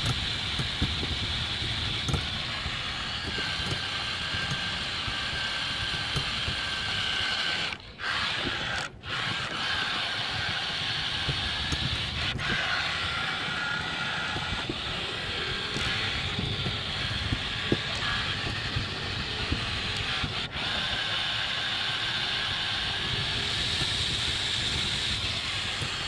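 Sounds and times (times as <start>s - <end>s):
toy vehicle motor whine: 0.0s - 26.0s
wheels rumbling on tiles: 0.0s - 26.0s.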